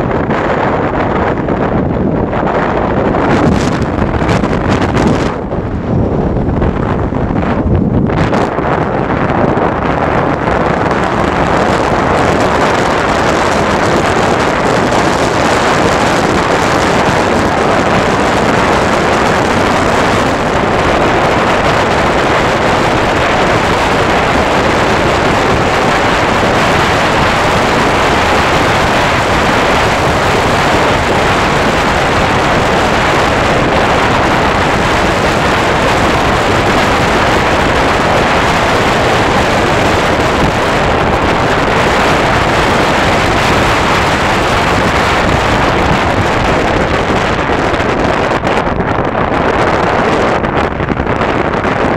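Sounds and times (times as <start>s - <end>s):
motorcycle engine running: 0.0s - 51.9s
wind rush on microphone: 0.0s - 51.9s.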